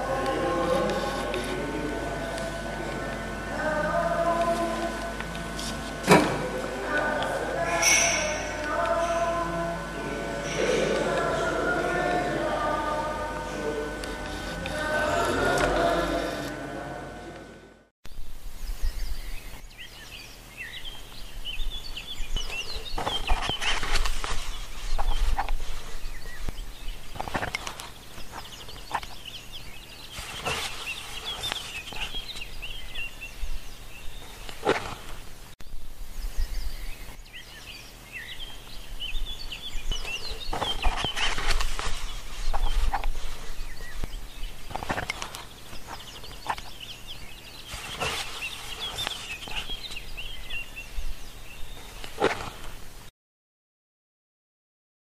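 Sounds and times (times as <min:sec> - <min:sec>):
birds chirping and calling: 0:00.0 - 0:17.2, 0:18.6 - 0:35.3, 0:36.1 - 0:52.8
steady low hum: 0:00.0 - 0:53.1.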